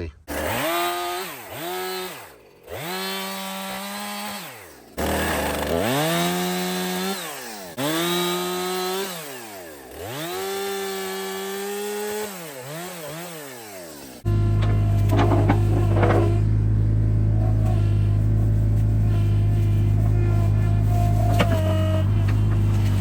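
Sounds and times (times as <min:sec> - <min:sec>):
chainsaw revving and cutting wood: 0:00.3 - 0:23.0.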